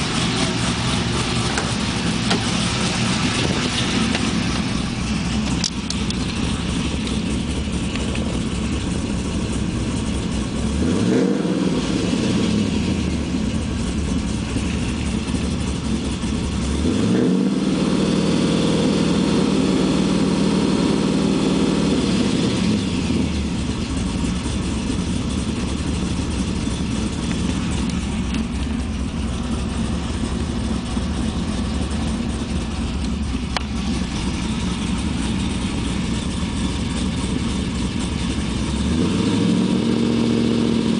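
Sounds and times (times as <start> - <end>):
car engine idling and revving: 0.0 - 40.9
engine ticking: 0.0 - 40.9.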